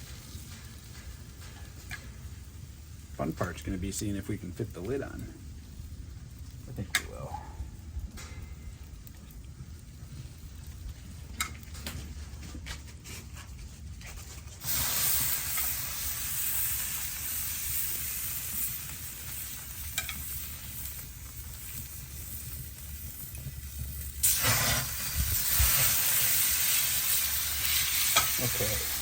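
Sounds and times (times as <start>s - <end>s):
pan sizzling over fire: 0.0s - 29.0s.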